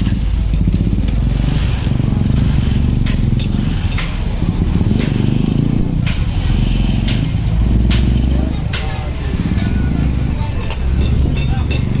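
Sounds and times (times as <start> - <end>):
motorcycle engine running: 0.0 - 12.0
sharp engine ticks: 0.1 - 12.0.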